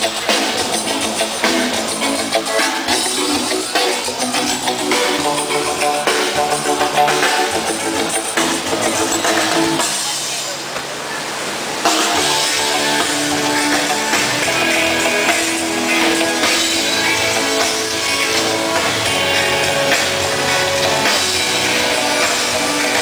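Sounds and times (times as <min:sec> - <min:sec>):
electric guitar: 0:00.0 - 0:10.2, 0:11.8 - 0:23.0
live rock band playing: 0:00.0 - 0:10.3, 0:11.8 - 0:23.0
drum kit: 0:00.0 - 0:10.6, 0:11.8 - 0:23.0.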